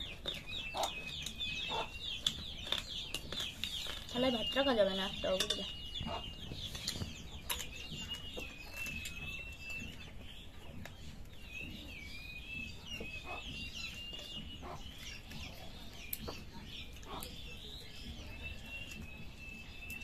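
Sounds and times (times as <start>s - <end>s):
bird clucking: 0.0s - 17.6s
birds chirping: 0.0s - 20.0s.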